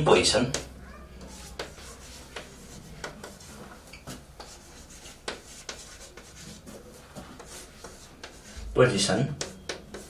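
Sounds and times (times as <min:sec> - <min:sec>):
chalk scratching on blackboard: 0:00.5 - 0:10.0.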